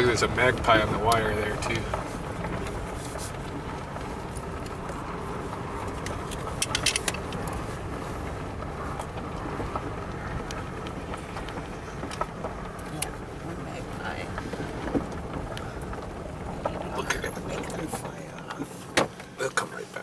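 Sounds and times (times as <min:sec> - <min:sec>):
road and engine noise inside vehicle: 0:00.0 - 0:20.0.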